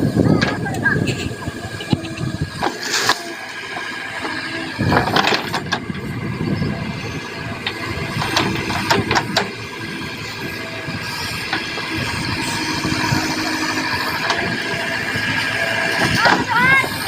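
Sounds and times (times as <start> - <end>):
diesel machinery running: 0.0 - 17.0.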